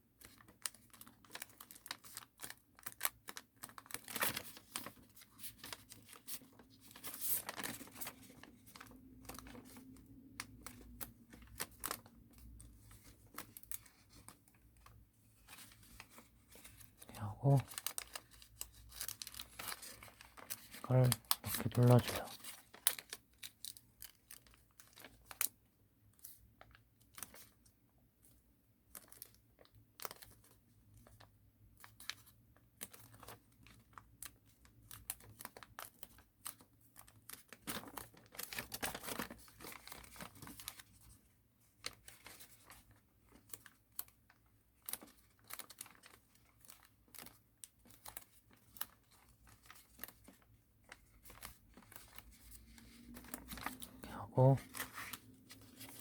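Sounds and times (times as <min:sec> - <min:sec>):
paper rustling: 0:00.2 - 0:25.5, 0:34.6 - 0:56.0
paper being folded: 0:00.2 - 0:25.6, 0:28.9 - 0:56.0.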